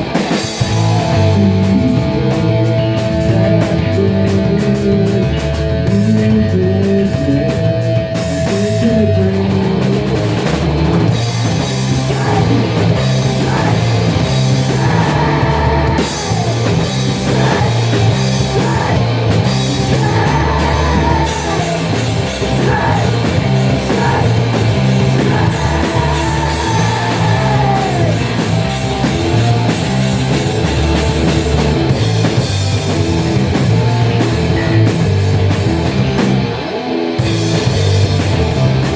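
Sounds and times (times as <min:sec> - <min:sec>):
heavy rock music: 0:00.0 - 0:38.9.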